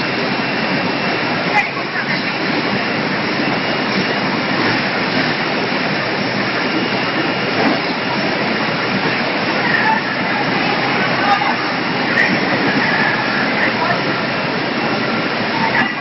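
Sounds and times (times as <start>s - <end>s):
processing line machinery din: 0.0s - 16.0s.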